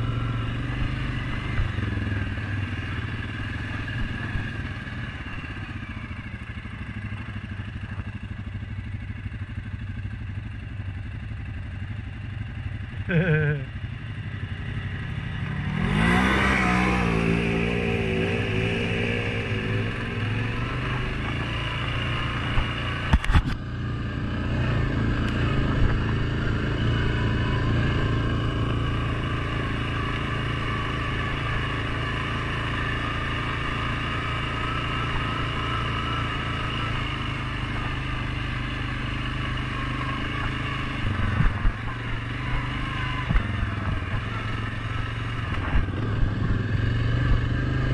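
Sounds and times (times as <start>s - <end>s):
atv engine accelerating: 0.0s - 47.9s.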